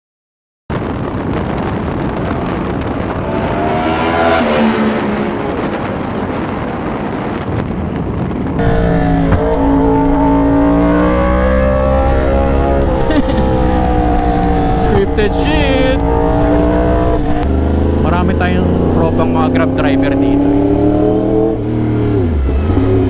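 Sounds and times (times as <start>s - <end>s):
wind rush on microphone: 0.7s - 23.0s
motorcycle engine revving: 2.1s - 7.1s, 8.6s - 23.0s.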